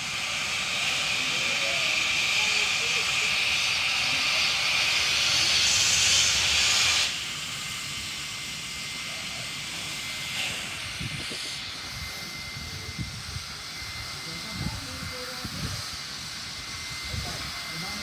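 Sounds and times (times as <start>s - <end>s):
steam locomotive venting steam: 0.0s - 18.0s.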